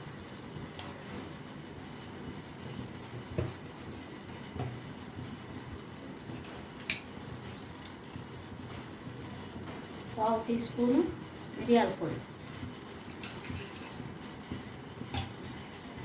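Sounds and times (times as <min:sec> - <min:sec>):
low rumble of heating water: 0:00.0 - 0:16.0.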